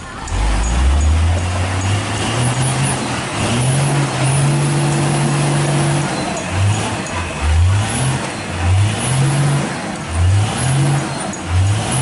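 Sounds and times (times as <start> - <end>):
mechanical and road noise: 0.0 - 12.0
truck engine under load: 0.0 - 12.0.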